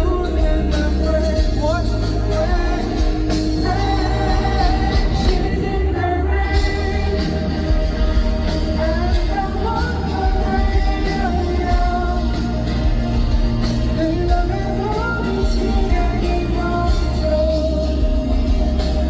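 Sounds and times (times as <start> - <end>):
heavy bass: 0.0 - 19.0
live pop-rock band: 0.0 - 19.0
person singing: 0.0 - 19.0.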